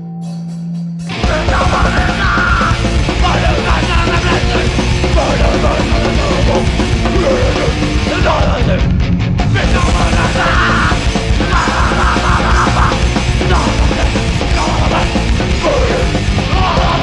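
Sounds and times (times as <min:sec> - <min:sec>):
punk band playing: 0:00.2 - 0:17.0.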